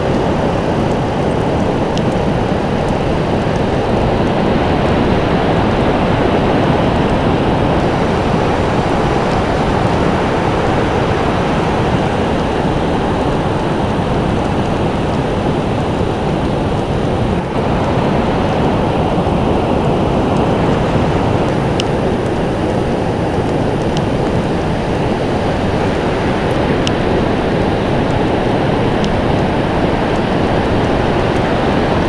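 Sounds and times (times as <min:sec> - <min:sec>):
surf waves washing on beach: 0:00.0 - 0:32.0.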